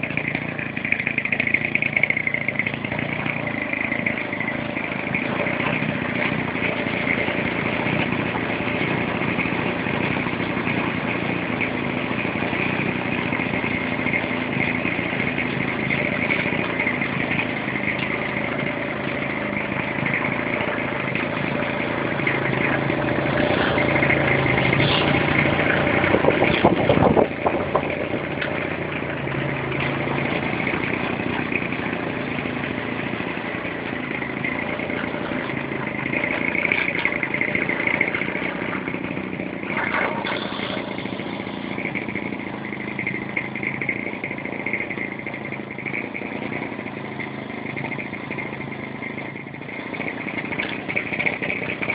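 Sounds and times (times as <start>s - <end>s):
model aircraft engine running: 0.0s - 51.9s.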